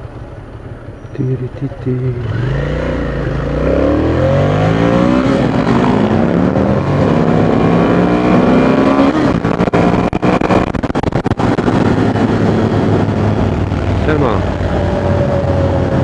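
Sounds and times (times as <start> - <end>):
motorcycle engine accelerating: 0.0 - 16.0
wind buffeting microphone: 2.8 - 16.0.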